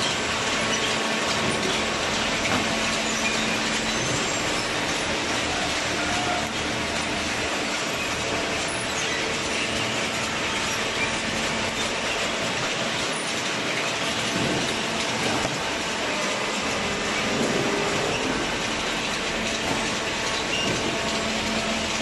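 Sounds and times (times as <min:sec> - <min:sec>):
hydraulic baler running: 0:00.0 - 0:22.0.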